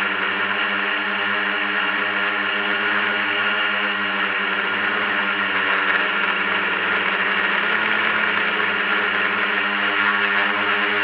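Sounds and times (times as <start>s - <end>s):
drone propellers whirring: 0.0s - 11.0s.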